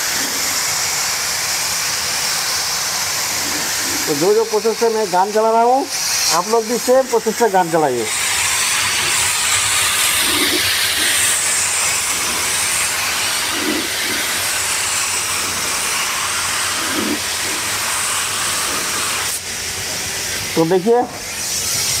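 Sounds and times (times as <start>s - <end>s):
spray gun hissing: 0.0s - 22.0s.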